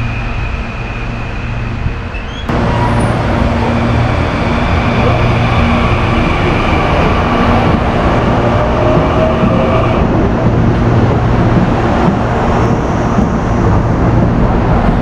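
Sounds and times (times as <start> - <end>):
train rail running noise: 0.0 - 15.0.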